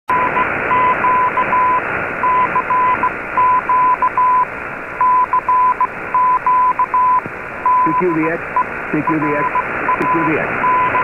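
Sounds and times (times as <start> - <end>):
morse code beeps: 0.1 - 11.0
shortwave hiss and static: 0.1 - 11.0.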